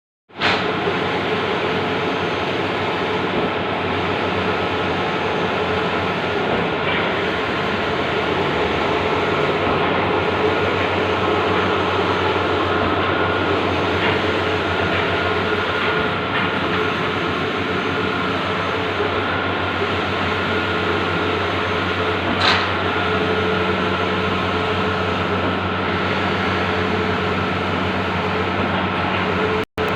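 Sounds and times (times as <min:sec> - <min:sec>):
printer whirring and humming: 0:00.3 - 0:29.9.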